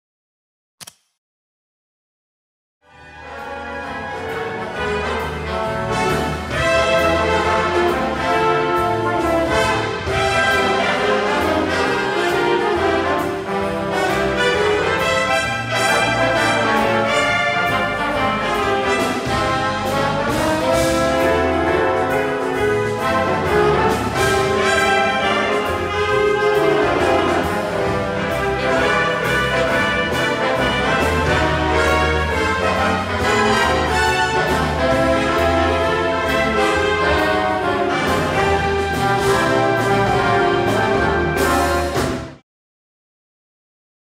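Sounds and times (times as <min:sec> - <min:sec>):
jazz big band playing: 0:02.9 - 0:42.4.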